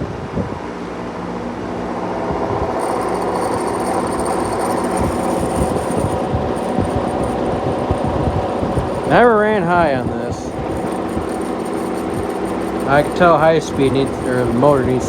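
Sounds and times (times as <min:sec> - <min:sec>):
box fan motor humming: 0:00.9 - 0:15.0
high motor whine: 0:00.9 - 0:15.0.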